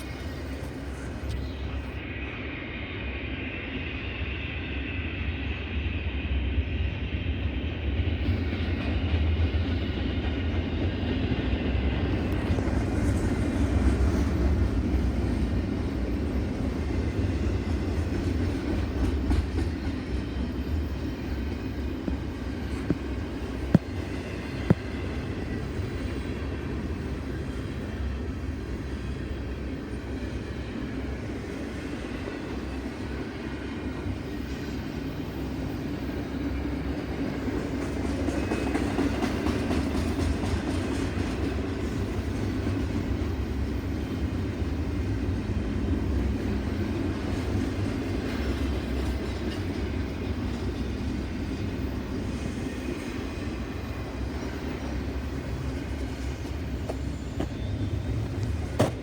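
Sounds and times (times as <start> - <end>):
train rumbling past: 0.0 - 59.0
wheels clacking on rails: 8.0 - 59.0.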